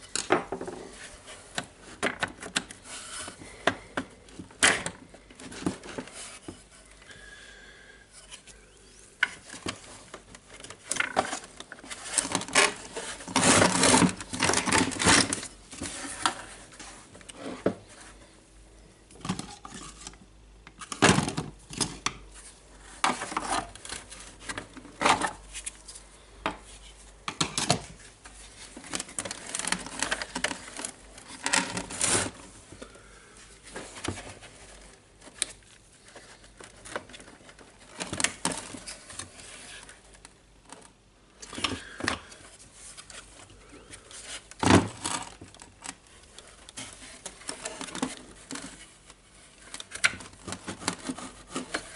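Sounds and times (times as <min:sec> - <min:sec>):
plastic parts and tools clattering: 0:00.0 - 0:06.7, 0:09.2 - 0:18.1, 0:19.1 - 0:22.2, 0:22.8 - 0:26.7, 0:27.3 - 0:32.8, 0:33.6 - 0:51.9.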